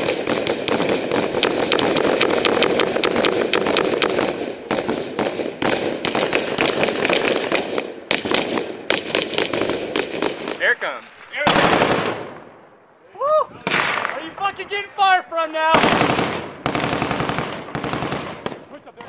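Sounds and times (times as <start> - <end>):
rifle gunfire: 0.0 - 10.8, 11.4 - 12.5, 13.6 - 14.4, 15.7 - 18.7.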